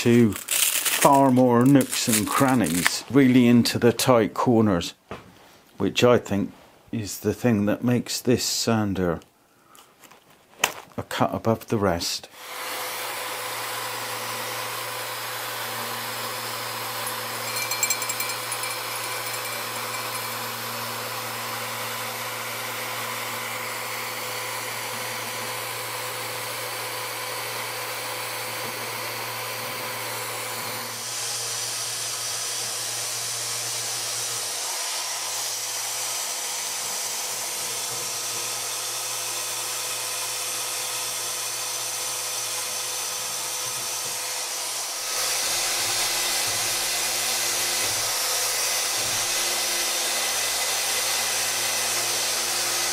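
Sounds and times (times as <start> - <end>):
power sander sanding wood: 0.0 - 3.2, 12.3 - 52.9.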